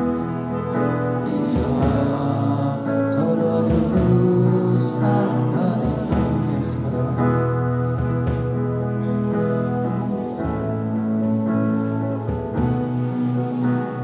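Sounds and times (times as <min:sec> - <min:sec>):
acoustic guitar: 0:00.0 - 0:14.0
drum kit: 0:00.0 - 0:14.0
keyboard: 0:00.0 - 0:14.0
person singing: 0:00.0 - 0:14.0.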